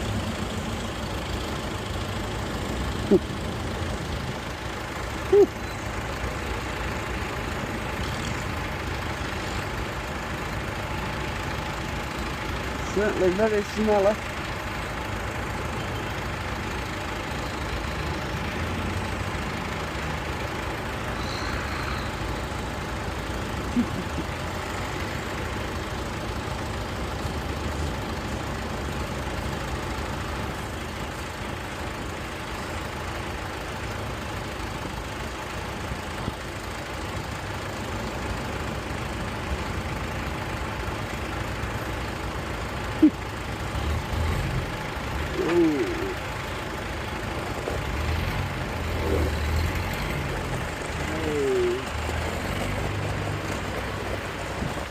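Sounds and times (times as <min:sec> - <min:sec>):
tractor engines running: 0:00.0 - 0:54.9.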